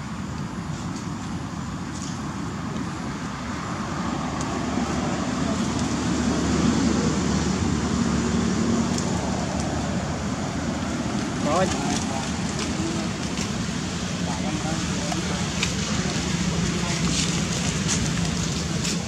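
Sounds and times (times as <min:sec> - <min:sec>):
road traffic rumble and hiss: 0:00.0 - 0:19.0.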